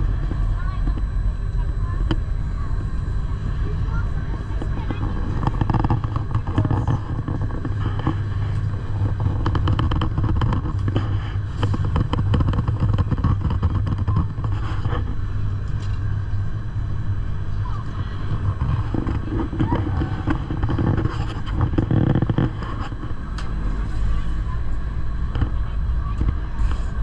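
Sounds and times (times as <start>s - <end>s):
electric train humming: 0.0s - 27.0s
train rattles and clicks: 3.9s - 16.0s, 17.5s - 27.0s.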